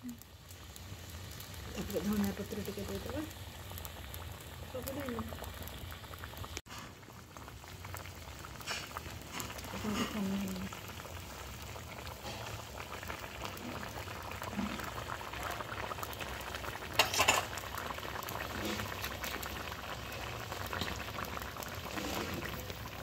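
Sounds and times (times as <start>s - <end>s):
curry bubbling at a boil: 0.0s - 23.0s.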